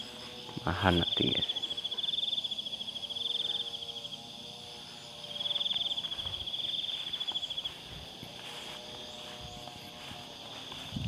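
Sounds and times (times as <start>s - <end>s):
insects trilling: 0.0s - 11.0s
steady insect hum: 0.0s - 11.0s.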